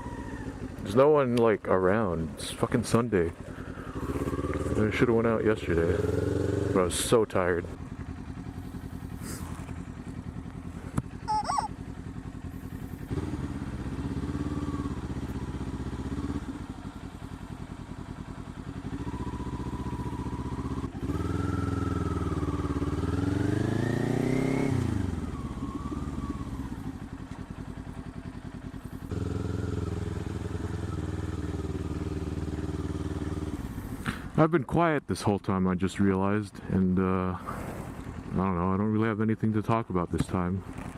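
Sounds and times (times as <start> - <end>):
motorcycle engine running: 0.0 - 34.4, 37.0 - 40.9.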